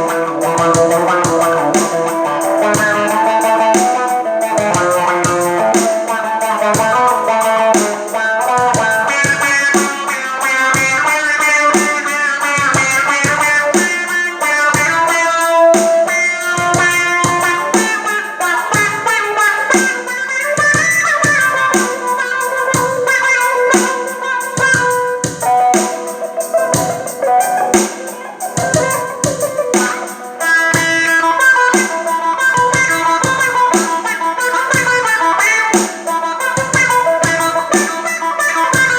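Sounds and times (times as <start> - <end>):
electric guitar with wah-wah: 0.0 - 38.9.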